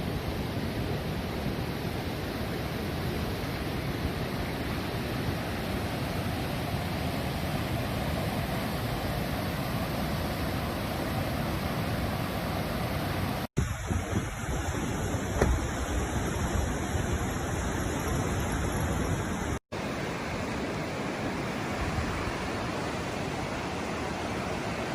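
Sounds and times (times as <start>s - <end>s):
rushing floodwater roar: 0.0s - 24.9s.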